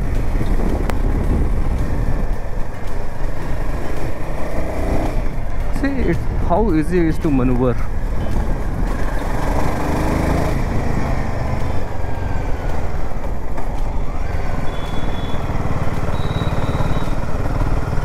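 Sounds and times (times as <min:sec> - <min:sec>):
wind noise: 0:00.0 - 0:16.3
motorcycle engine running: 0:00.0 - 0:18.0
road noise: 0:00.0 - 0:18.0.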